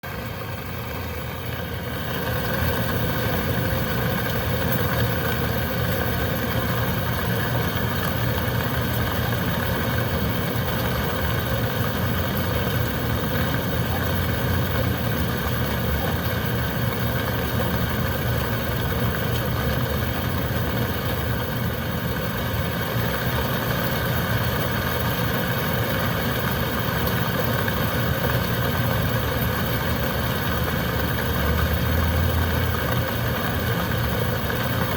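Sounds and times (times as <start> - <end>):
heavy rain: 0.0 - 34.9
wind: 0.0 - 34.9.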